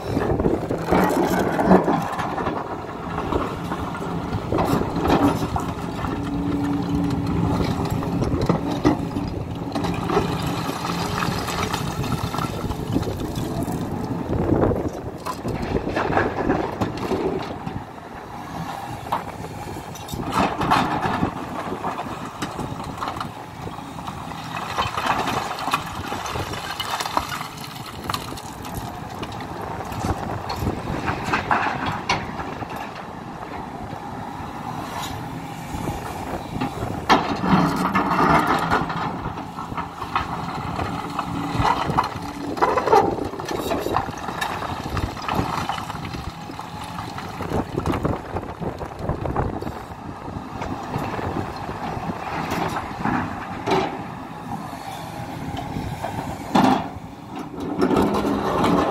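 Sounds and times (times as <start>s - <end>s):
excavator engine running: 0.0s - 58.9s.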